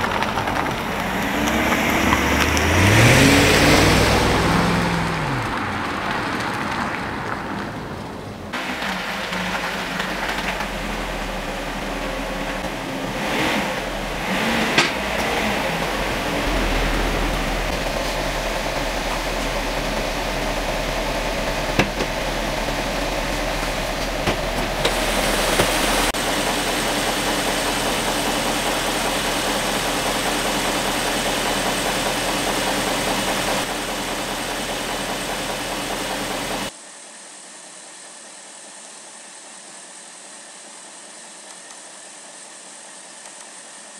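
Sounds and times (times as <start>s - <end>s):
car engine idling: 0.0s - 36.7s
engine knocks and clicks: 0.0s - 36.7s.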